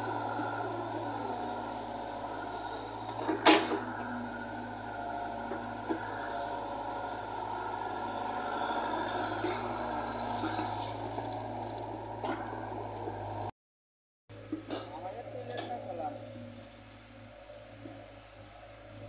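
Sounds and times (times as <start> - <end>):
excavator diesel engine running: 0.0 - 13.5, 14.3 - 19.0.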